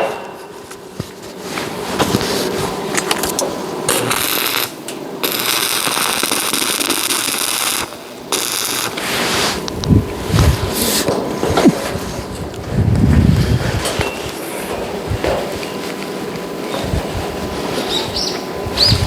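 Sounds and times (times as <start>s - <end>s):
electric arc welding crackle: 1.0s - 19.0s.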